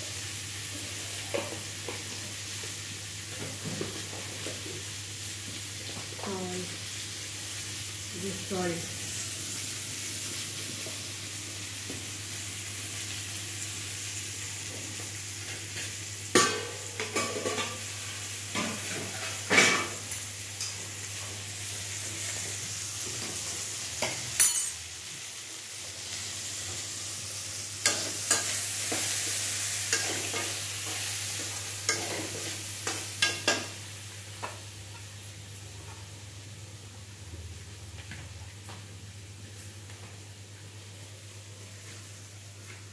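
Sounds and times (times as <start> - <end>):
vegetables sizzling in a pan: 0.0 - 42.9.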